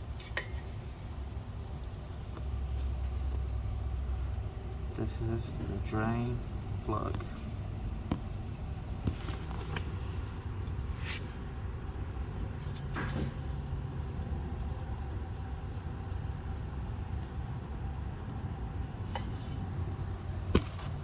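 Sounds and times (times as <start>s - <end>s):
faint clicks: 0.0s - 21.0s
low background rumble: 0.0s - 21.0s.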